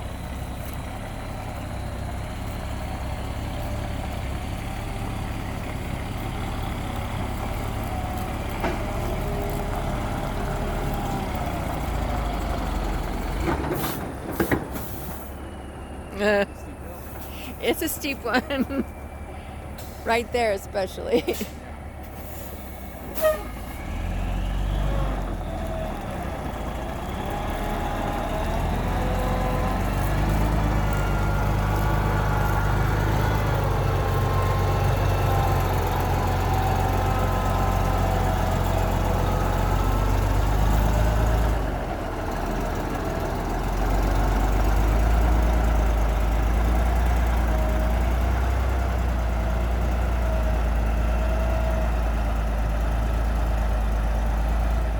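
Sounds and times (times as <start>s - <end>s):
vehicle engine under load: 0.0s - 54.9s.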